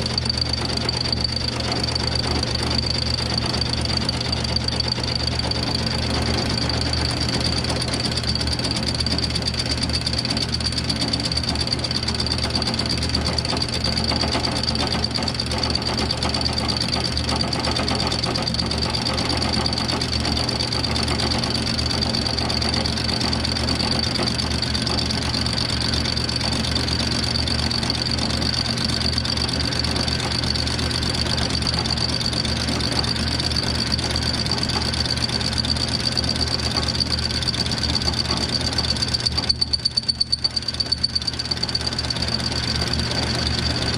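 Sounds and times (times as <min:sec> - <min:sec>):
milling machine motor hum and whine: 0:00.0 - 0:43.9.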